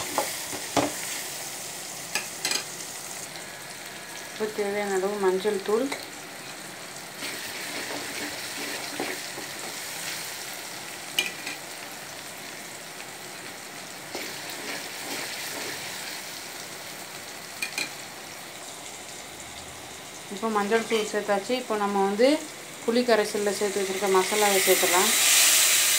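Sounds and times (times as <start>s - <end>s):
masala sizzling in hot oil: 0.0s - 25.9s.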